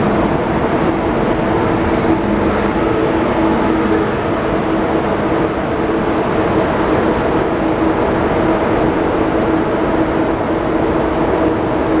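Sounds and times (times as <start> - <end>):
train rumbling with low hum: 0.0 - 12.0.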